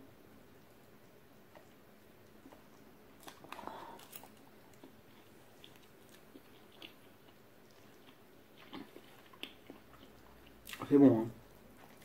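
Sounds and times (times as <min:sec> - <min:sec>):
faint chewing: 0:00.5 - 0:12.0.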